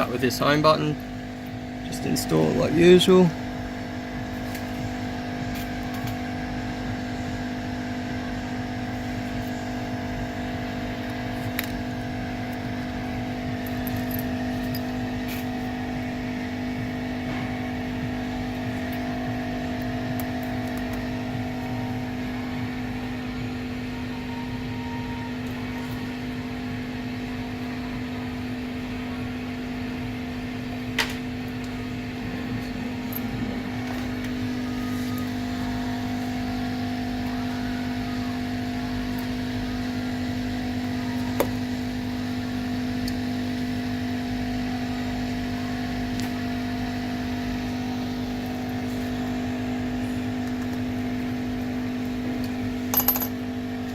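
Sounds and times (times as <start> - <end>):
steady mechanical hum: 0.0 - 53.9.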